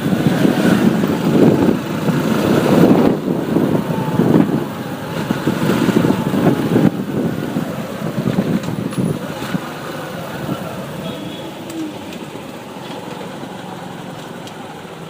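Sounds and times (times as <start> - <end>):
motorbike engine and road noise: 0.0 - 15.0.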